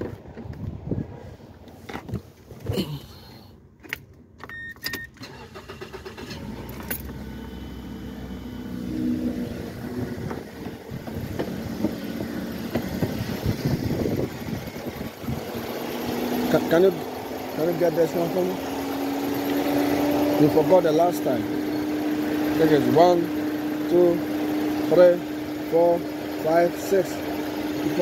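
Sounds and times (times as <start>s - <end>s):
car engine starting and running: 3.8s - 28.0s.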